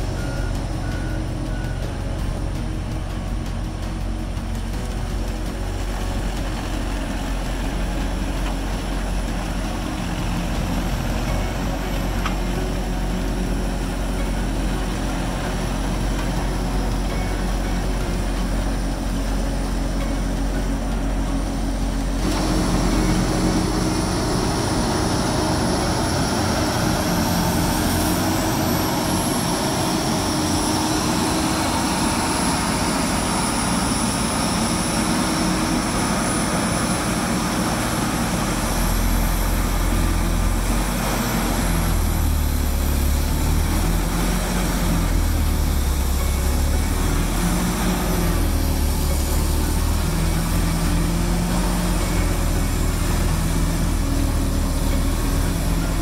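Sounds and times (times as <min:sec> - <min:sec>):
heavy machine diesel drone: 0:00.0 - 0:56.0
thin high whine: 0:00.0 - 0:56.0.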